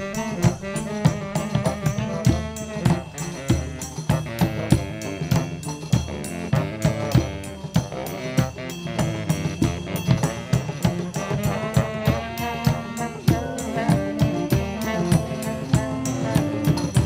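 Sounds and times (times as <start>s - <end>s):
bass and snare drums: 0.0s - 17.0s
saxophone: 0.0s - 17.0s
trumpet: 0.0s - 17.0s.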